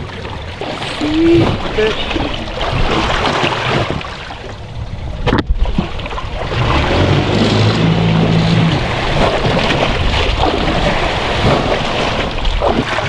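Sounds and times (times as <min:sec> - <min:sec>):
boat engine humming: 0:00.0 - 0:13.0
sea noise: 0:00.0 - 0:13.0
wind: 0:00.0 - 0:13.0.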